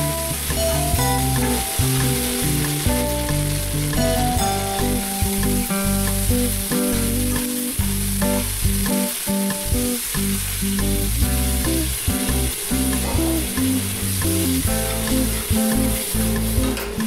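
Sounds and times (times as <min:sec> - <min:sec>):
background music: 0:00.0 - 0:10.1, 0:10.8 - 0:17.0
onions sizzling in frying pan: 0:00.0 - 0:16.8.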